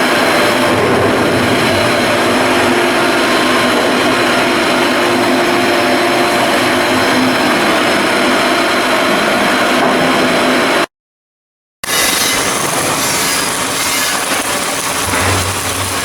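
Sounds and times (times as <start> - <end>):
loud machinery humming: 0.0 - 10.9, 11.8 - 16.0.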